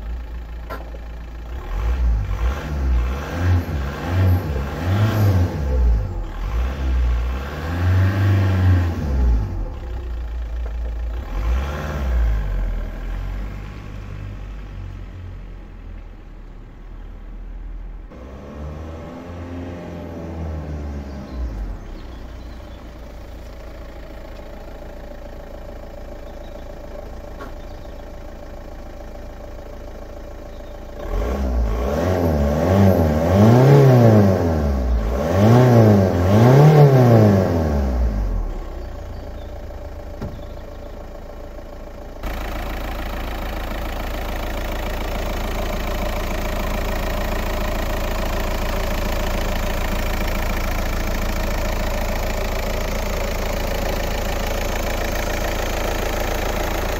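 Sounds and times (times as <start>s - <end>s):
diesel engine idling: 0.0s - 56.9s
diesel engine revving: 0.0s - 56.9s.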